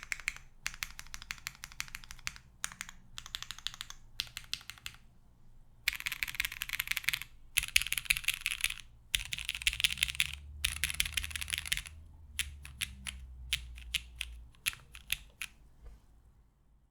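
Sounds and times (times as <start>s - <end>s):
mechanical keyboard typing: 0.0s - 5.0s, 5.9s - 15.6s.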